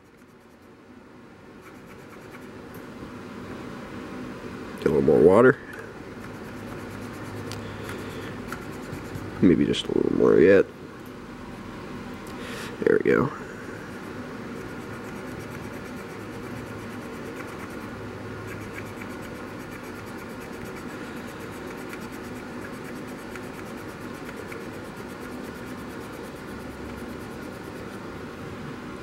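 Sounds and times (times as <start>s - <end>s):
room noise hiss: 0.0s - 29.0s.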